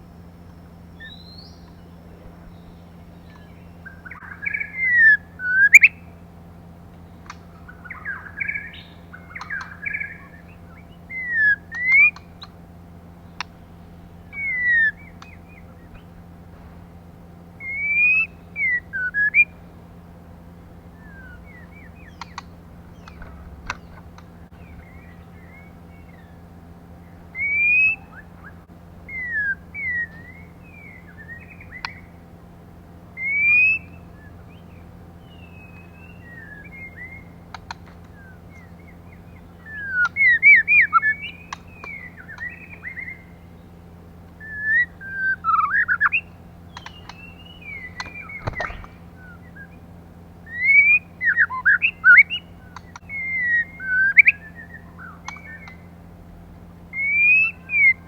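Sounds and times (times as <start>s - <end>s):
low electrical hum: 0.0s - 58.0s
bird whistling and chirping: 0.4s - 6.1s, 7.4s - 12.5s, 14.2s - 16.2s, 17.6s - 19.6s, 20.9s - 32.2s, 33.1s - 43.8s, 44.4s - 56.0s, 56.9s - 58.0s.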